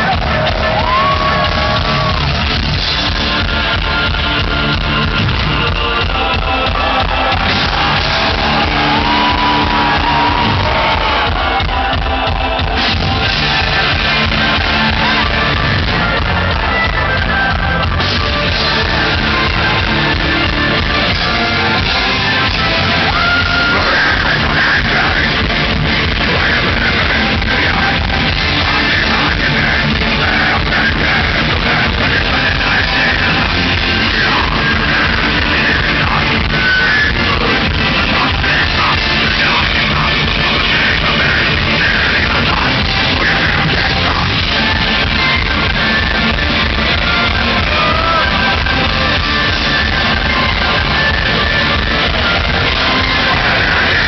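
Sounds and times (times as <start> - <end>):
distorted guitars: 0.0 - 54.0
pounding drums: 0.0 - 54.0
yelled vocals: 0.0 - 54.0.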